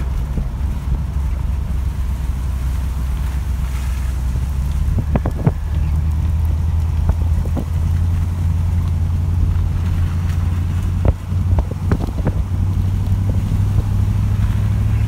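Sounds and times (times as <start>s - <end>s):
car interior driving rumble: 0.0s - 15.0s.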